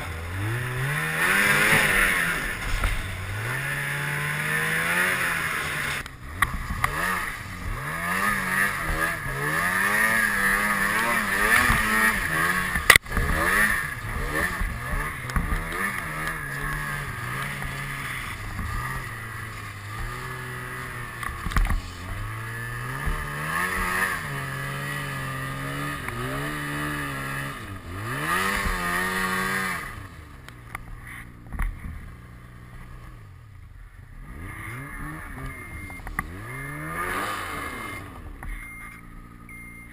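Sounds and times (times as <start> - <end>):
snowmobile engine revving: 0.0 - 33.3, 34.1 - 39.5.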